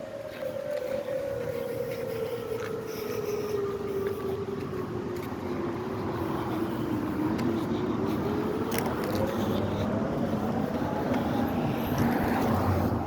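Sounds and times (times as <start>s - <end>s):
civil defense siren wailing: 0.0s - 13.0s
steady background noise: 0.0s - 13.0s.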